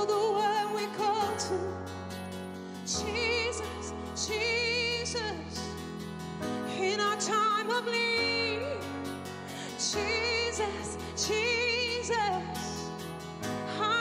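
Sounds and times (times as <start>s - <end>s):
person singing slow worship song: 0.0s - 14.0s
sustained chords and bass: 0.0s - 14.0s.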